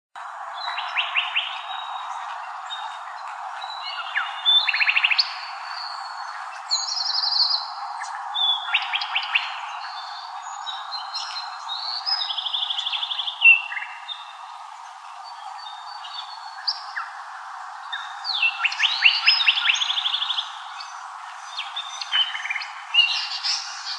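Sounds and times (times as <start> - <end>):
birds singing: 0.3 - 23.9.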